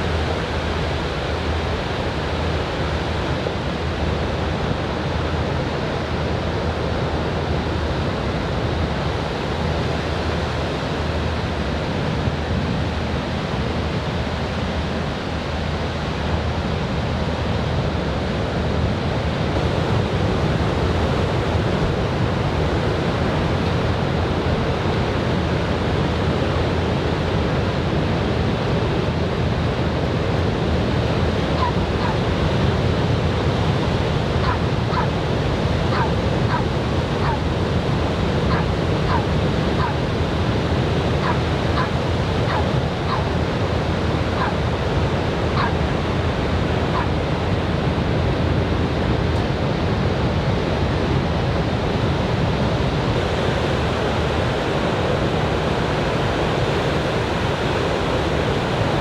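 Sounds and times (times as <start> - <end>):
waves washing on sandy beach: 0.0 - 59.0.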